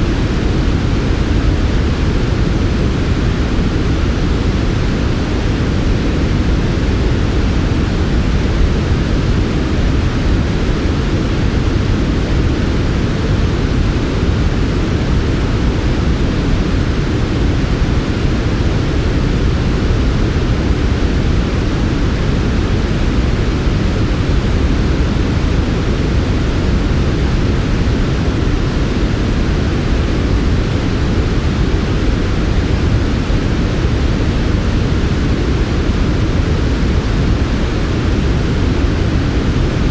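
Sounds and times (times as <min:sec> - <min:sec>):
deep soft white noise: 0:00.0 - 0:39.9.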